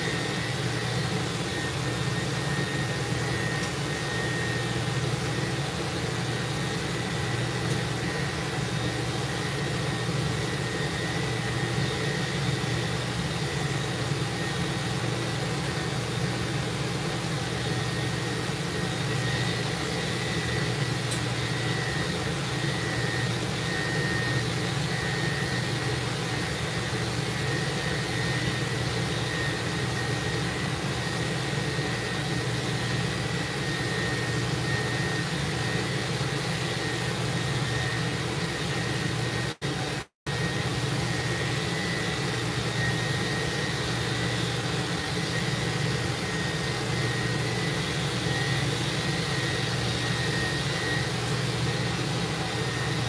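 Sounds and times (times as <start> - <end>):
machine drone with high whine: 0.0 - 53.0.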